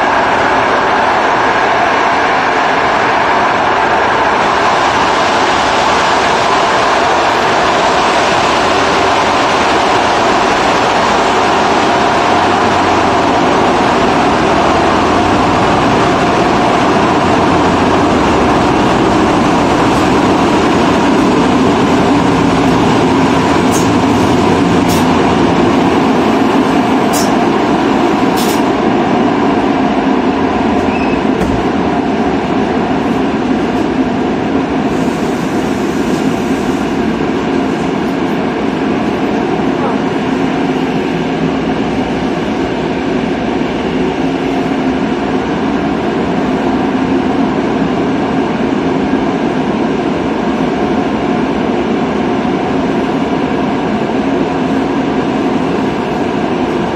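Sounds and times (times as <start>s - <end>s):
train running noise: 0.0s - 56.9s.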